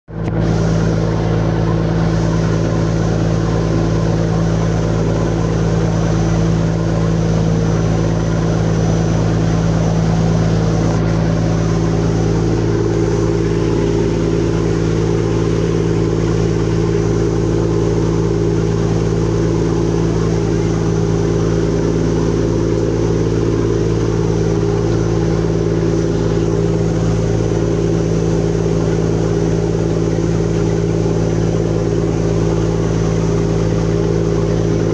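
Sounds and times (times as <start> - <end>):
boat engine droning: 0.1 - 34.9
water rushing along hull: 0.1 - 34.9.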